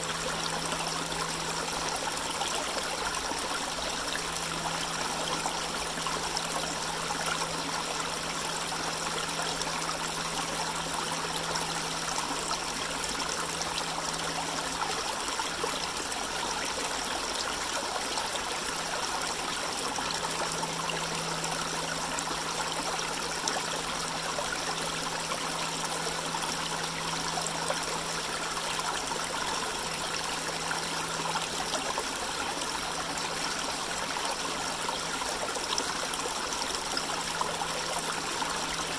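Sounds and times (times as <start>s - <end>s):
creek trickling over rocks: 0.0s - 38.9s.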